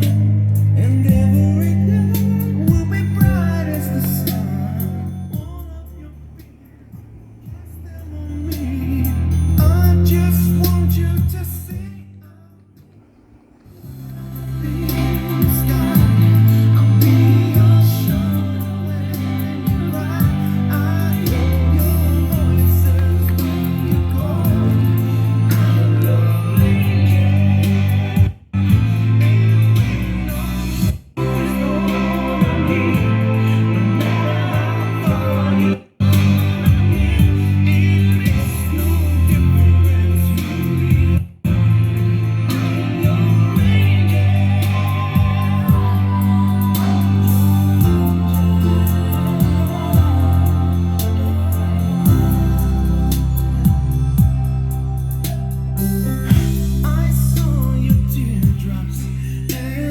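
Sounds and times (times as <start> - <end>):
song with singing bass and drums: 0.0 - 12.5, 13.7 - 59.9.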